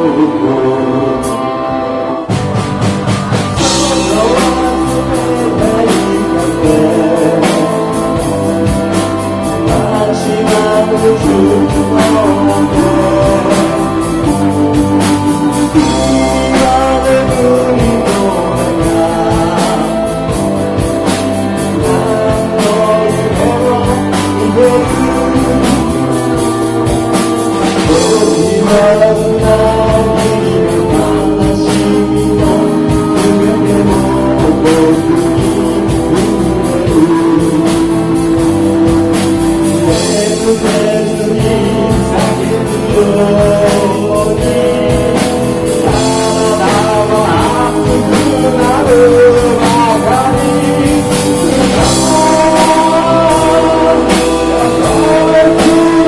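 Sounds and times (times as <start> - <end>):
bass guitar: 0.0 - 56.0
electric guitar lines: 0.0 - 56.0
steady drum beat: 2.2 - 56.0.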